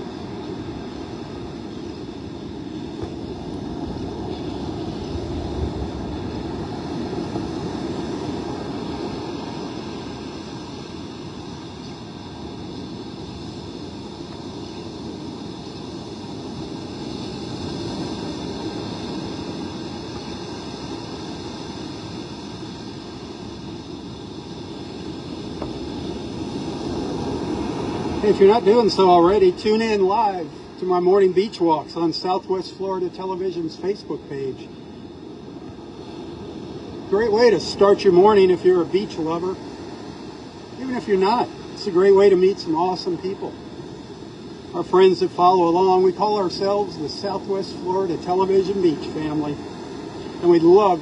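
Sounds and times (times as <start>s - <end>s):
surf rumbling: 0.0s - 51.0s
wind: 0.0s - 51.0s.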